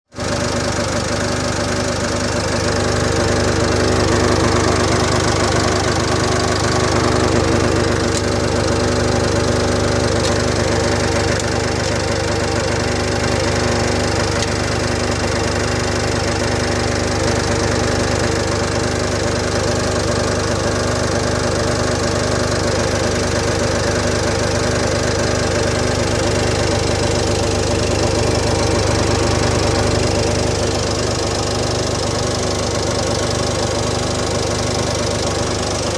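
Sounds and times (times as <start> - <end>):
diesel engine humming: 0.2 - 35.9.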